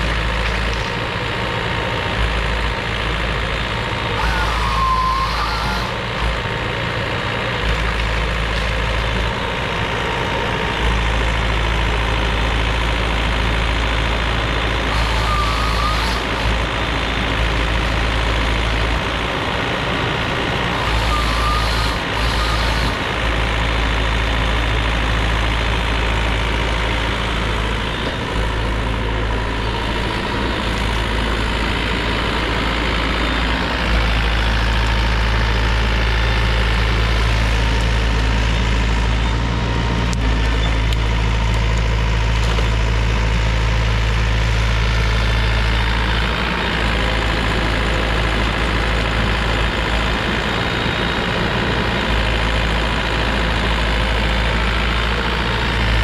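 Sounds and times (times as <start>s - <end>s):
heavy machine engine droning: 0.0s - 56.0s.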